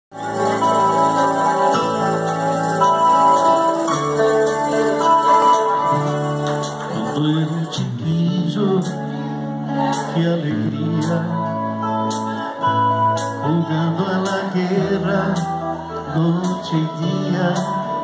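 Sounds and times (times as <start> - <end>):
electric bass long notes: 0.1 - 18.0
guitar chords: 0.1 - 18.0
keyboard chords: 0.1 - 18.0.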